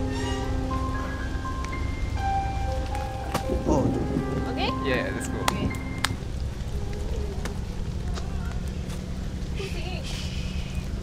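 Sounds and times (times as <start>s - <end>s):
rain noise: 0.0s - 11.0s.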